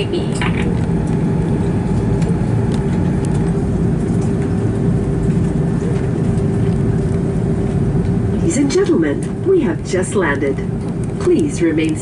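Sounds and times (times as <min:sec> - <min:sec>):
aircraft cabin rumble: 0:00.0 - 0:12.0
steady hum: 0:00.0 - 0:12.0.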